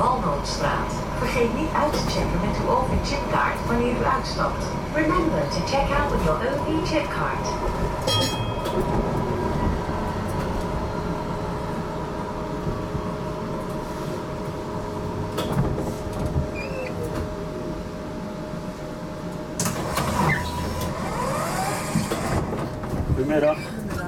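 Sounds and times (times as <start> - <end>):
tram humming and whining: 0.0 - 24.0.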